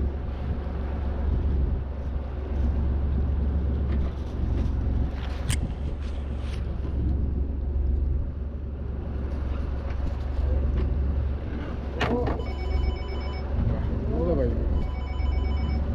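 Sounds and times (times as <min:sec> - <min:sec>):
boat engine humming: 0:00.0 - 0:15.9.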